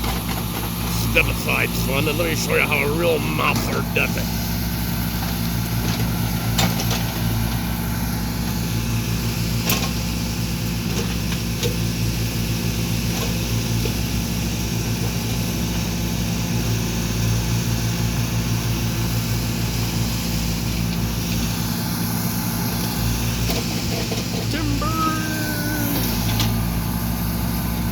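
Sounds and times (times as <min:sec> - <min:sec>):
excavator engine running: 0:00.0 - 0:27.9.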